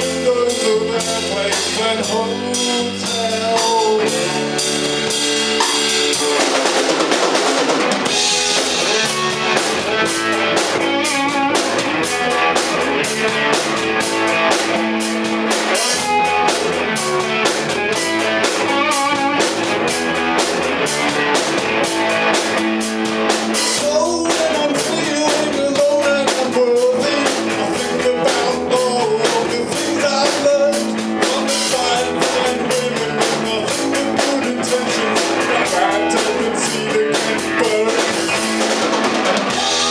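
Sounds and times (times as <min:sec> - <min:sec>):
drum kit driving beat: 0:00.0 - 0:39.9
live rock band playing: 0:00.0 - 0:39.9.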